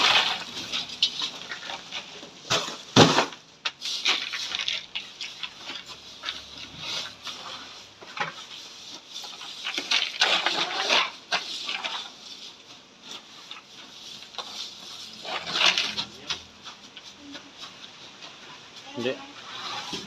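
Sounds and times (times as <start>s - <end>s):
ice crunching and clattering: 0.0s - 20.0s.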